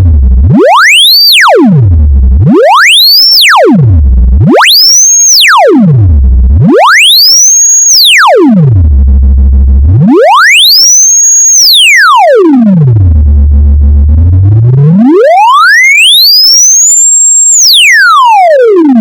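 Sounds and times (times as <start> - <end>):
electronic sine tone sweep: 0.0 - 19.0.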